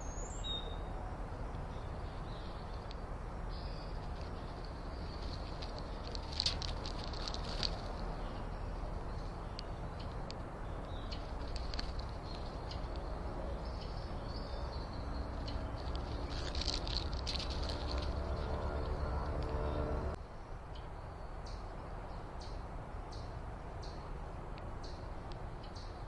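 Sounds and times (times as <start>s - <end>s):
faint hum: 0.0s - 22.2s
low outdoor rumble: 0.0s - 26.0s
small birds chirping: 0.0s - 26.0s.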